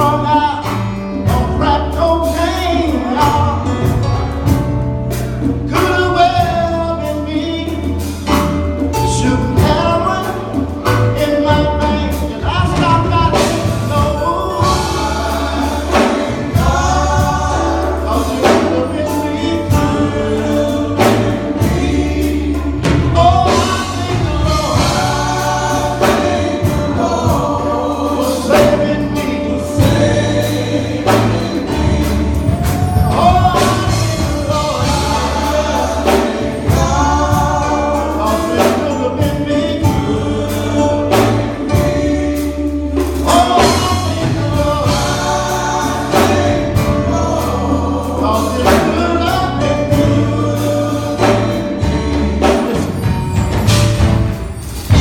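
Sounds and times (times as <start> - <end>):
band with bass and beat: 0.0 - 55.0
gospel choir singing: 0.0 - 55.0.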